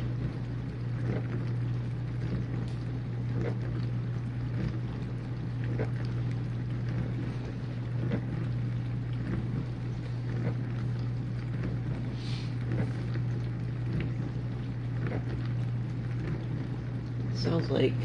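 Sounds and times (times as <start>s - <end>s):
dishwasher pump humming: 0.0s - 18.0s
water spraying inside dishwasher: 0.0s - 18.0s.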